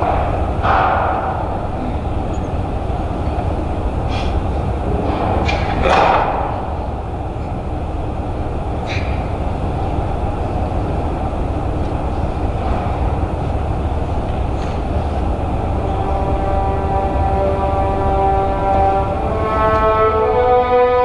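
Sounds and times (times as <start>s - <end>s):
low room rumble: 0.0s - 21.0s.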